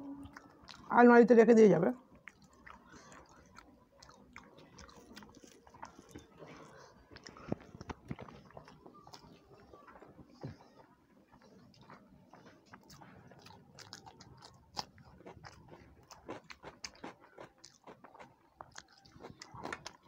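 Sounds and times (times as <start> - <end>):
chewing and crunching: 0.2 - 0.9, 2.0 - 20.0.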